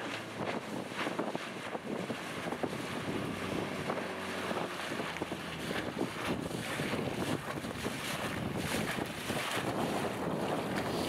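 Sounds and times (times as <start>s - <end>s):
outboard motor drone: 0.0s - 11.0s
waves slapping against hull: 0.0s - 11.0s
wind buffeting microphone: 0.0s - 11.0s.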